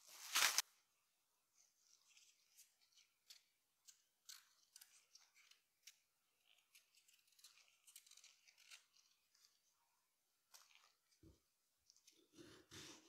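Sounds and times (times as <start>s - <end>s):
faint crisp clicks and rustles: 1.5s - 13.0s.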